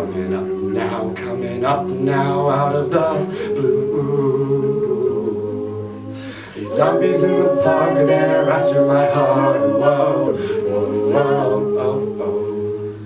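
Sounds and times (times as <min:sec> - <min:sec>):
backing singers holding chords: 0:00.0 - 0:13.0
lead voice singing: 0:00.0 - 0:13.0.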